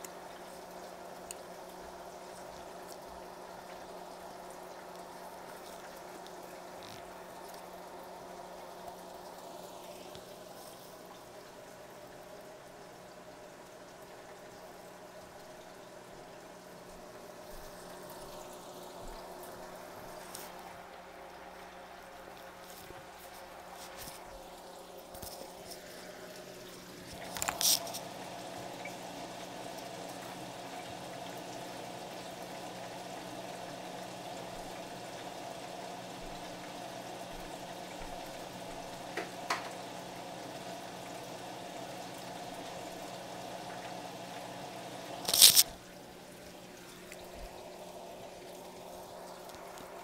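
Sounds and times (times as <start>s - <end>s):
oil bubbling and sizzling: 0.0s - 50.0s.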